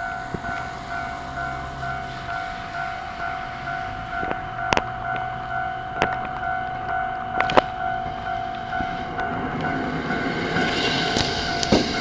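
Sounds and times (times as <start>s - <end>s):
electric train passing: 0.0s - 12.0s
level crossing bell ringing: 0.0s - 12.0s
train wheels clacking on track: 0.0s - 12.0s.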